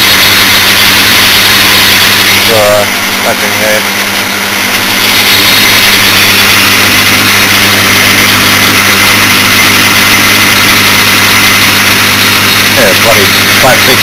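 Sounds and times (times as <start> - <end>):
hiss of lathe cutting plastic: 0.0 - 14.0
lathe motor hum: 0.0 - 14.0.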